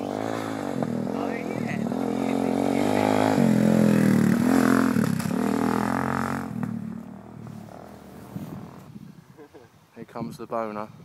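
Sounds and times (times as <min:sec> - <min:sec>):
dirt bike engine revving: 0:00.0 - 0:09.0.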